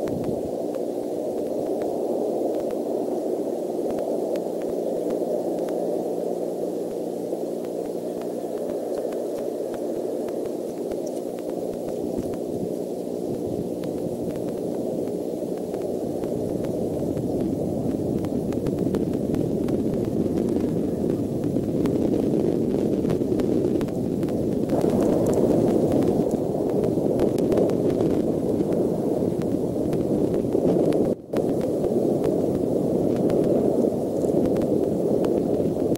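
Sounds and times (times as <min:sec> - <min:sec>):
faint hum: 0:00.0 - 0:35.9
low rushing noise: 0:00.0 - 0:35.9.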